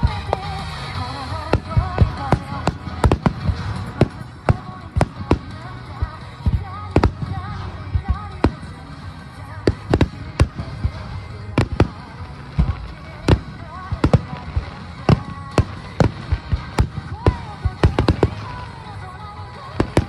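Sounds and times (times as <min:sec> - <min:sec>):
fireworks bursting: 0:00.0 - 0:20.0
song with singing voice: 0:00.0 - 0:20.0.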